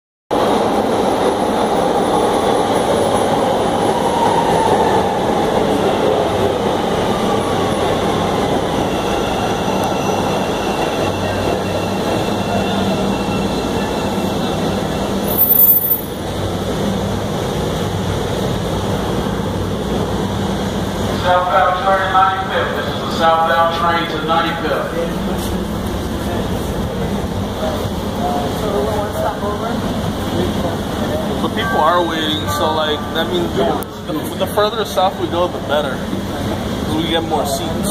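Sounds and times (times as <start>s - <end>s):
falling whine of slowing train: 0.3s - 37.9s
subway train rolling and braking: 0.3s - 37.9s.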